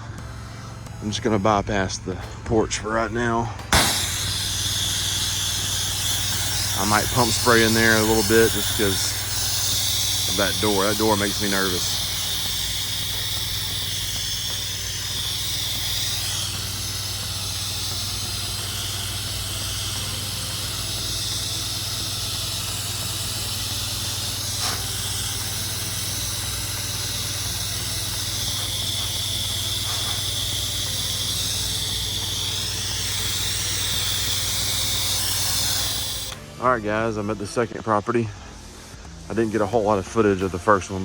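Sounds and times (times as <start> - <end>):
pressure washer engine hum: 0.0 - 41.0
pressure washer spray hissing: 0.0 - 41.0.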